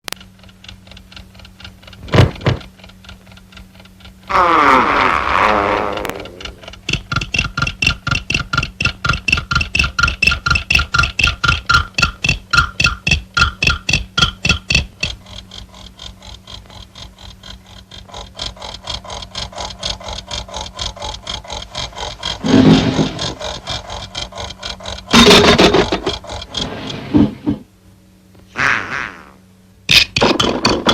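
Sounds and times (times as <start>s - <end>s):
fast ticking with ringing tone: 0.0s - 26.7s.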